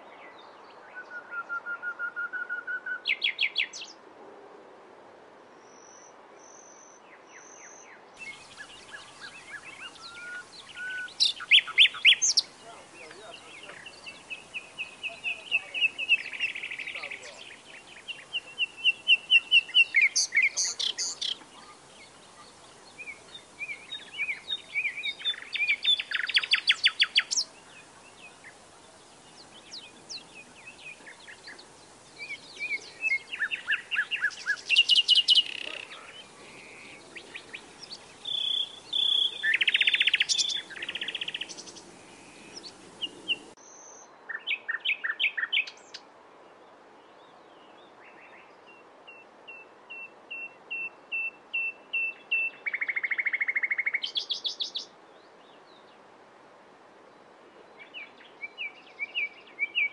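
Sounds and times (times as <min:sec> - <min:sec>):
songbird singing: 0:00.0 - 0:04.0, 0:05.6 - 0:56.2, 0:56.9 - 0:59.9.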